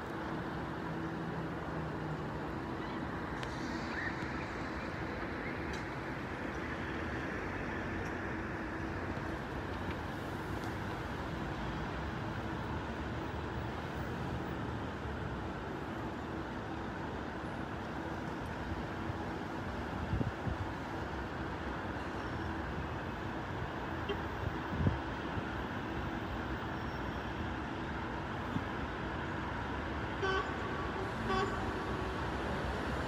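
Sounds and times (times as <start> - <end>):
city road traffic: 0.0 - 33.0.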